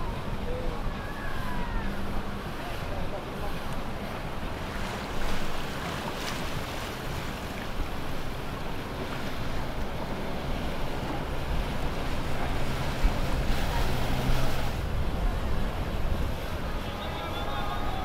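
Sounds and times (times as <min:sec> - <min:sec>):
boat engines droning: 0:00.0 - 0:18.0
rush of boat wake: 0:00.0 - 0:18.0
wind buffeting microphone: 0:00.0 - 0:18.0.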